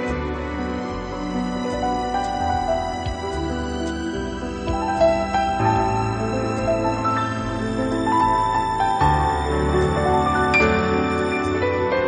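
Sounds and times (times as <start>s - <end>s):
gentle new-age instrumental music: 0.0s - 12.0s.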